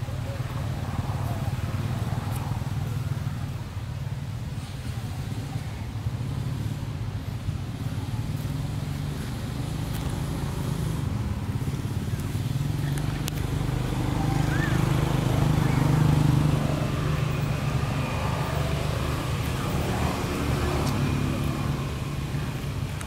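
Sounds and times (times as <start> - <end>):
engine droning steadily: 0.0 - 23.0.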